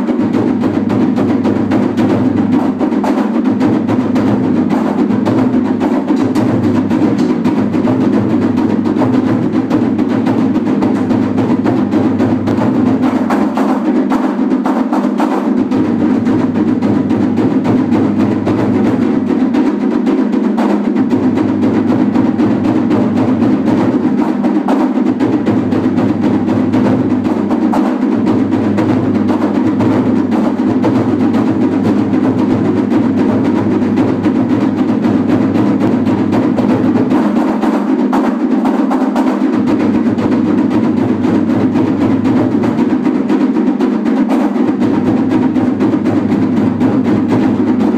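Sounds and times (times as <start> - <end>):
taiko drums beaten: 0.0 - 47.9.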